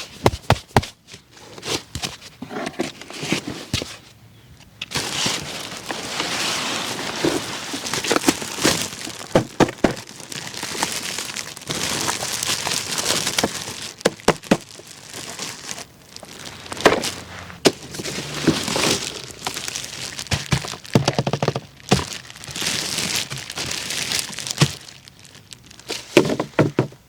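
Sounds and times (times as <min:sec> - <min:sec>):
packaging crinkling and rustling: 0:00.0 - 0:04.1, 0:04.8 - 0:27.0.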